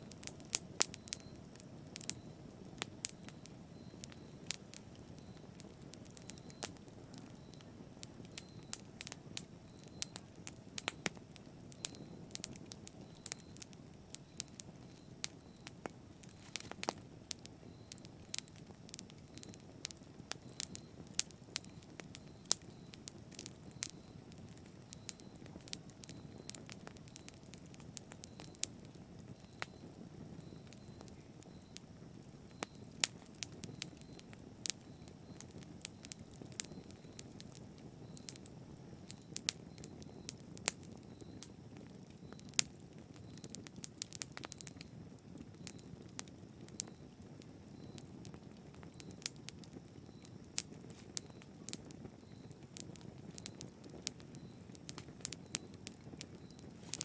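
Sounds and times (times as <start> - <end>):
fire crackling and popping: 0.0 - 57.0
low rush of flames: 0.1 - 57.0.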